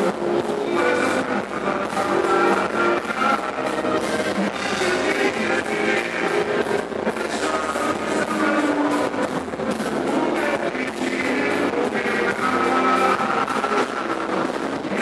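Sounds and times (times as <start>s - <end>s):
guitar: 0.0s - 15.0s.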